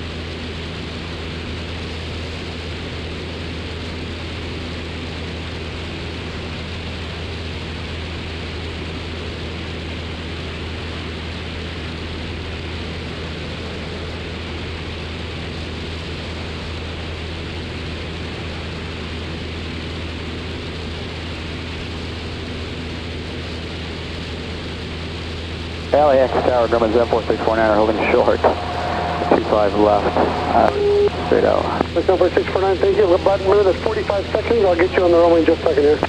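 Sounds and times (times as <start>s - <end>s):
airplane engine droning in cabin: 0.0s - 36.0s.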